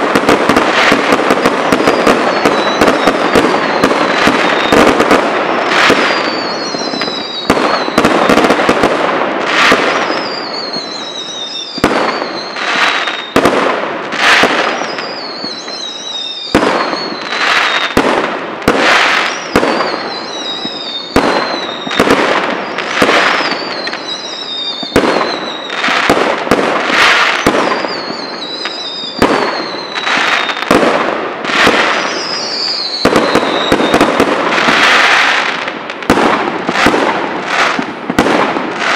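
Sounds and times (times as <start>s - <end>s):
firework whistles sliding down: 0.0s - 8.6s, 9.4s - 13.5s, 14.1s - 18.0s, 18.6s - 30.8s, 31.4s - 35.7s.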